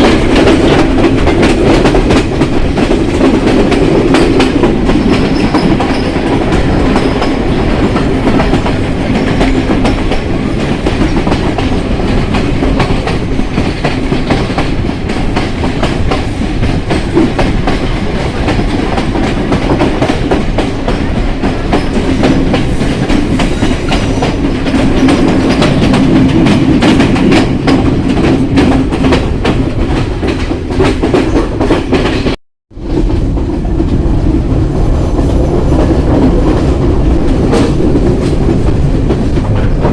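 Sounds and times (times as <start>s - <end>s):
train rumbling on tracks: 0.0s - 39.9s.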